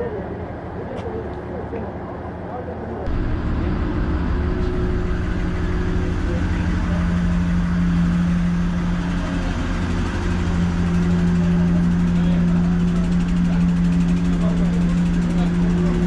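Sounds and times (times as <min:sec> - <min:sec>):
train engine humming: 0:03.0 - 0:16.0.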